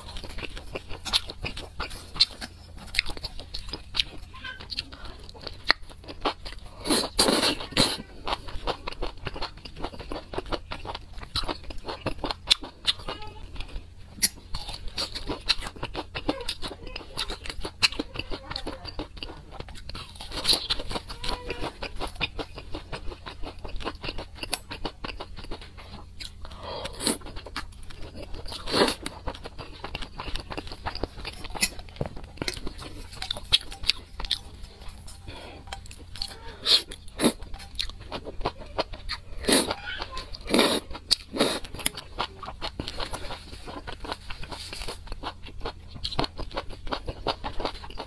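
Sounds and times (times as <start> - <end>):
person chewing food: 0.0 - 48.0.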